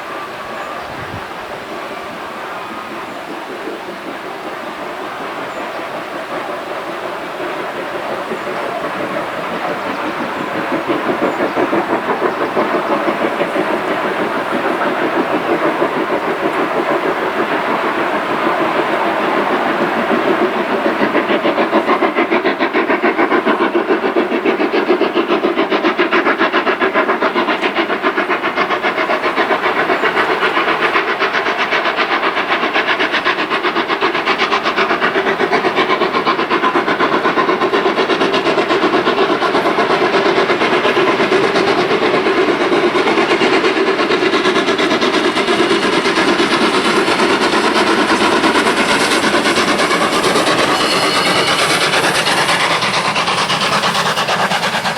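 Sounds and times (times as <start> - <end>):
steam locomotive chugging: 0.0 - 54.9.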